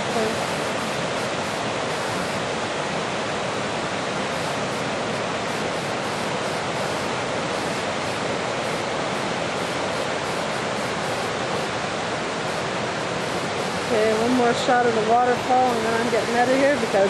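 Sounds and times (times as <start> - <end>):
waterfall and river rapids: 0.0 - 17.0.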